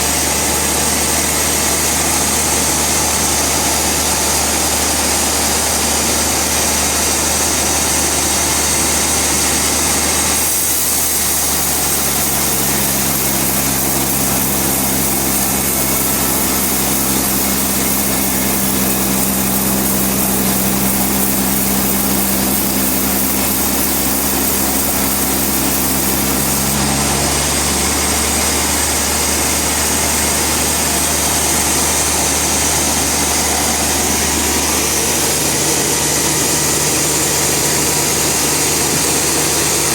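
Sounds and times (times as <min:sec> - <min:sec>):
engine with high hiss: 0:00.0 - 0:39.9.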